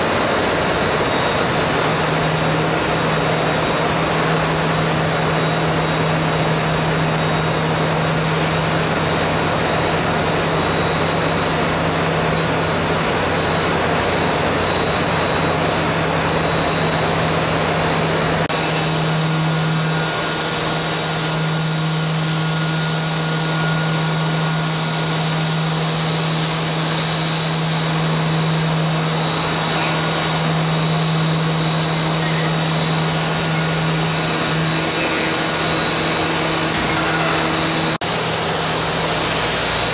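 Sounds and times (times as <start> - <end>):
workshop machinery hum: 0.0 - 39.9.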